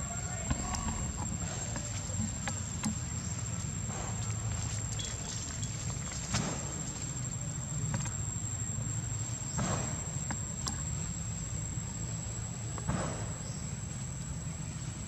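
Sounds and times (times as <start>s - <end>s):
insect high-pitched drone: 0.0s - 15.0s
low rumble: 0.0s - 15.0s.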